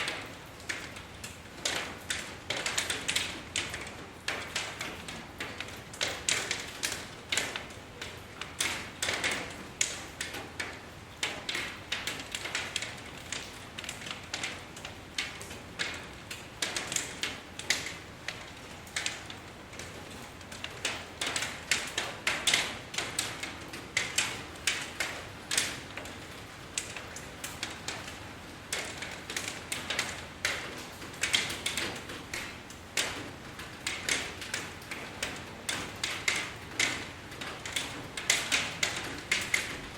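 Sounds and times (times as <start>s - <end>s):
raindrops tapping on hard surface: 0.0s - 39.9s.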